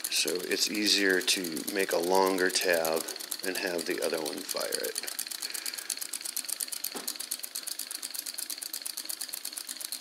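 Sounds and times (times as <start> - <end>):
solenoid engine rapid clicking: 0.0 - 10.0.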